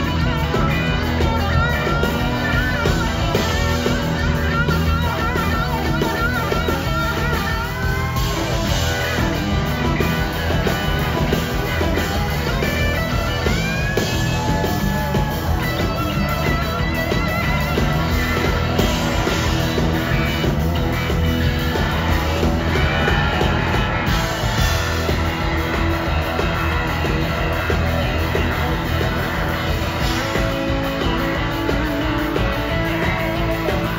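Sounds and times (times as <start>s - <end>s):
lead electric guitar with vibrato: 0.0s - 33.9s
rock band playing: 0.0s - 33.9s.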